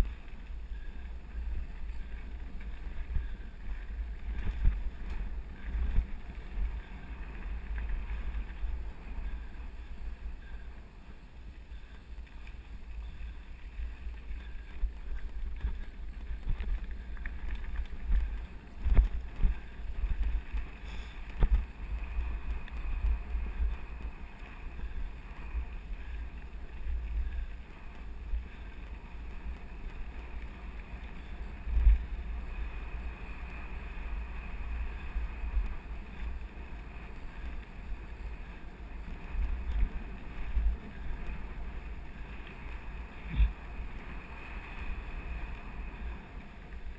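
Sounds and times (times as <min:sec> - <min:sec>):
low rumble with small jolts: 0:00.0 - 0:46.9.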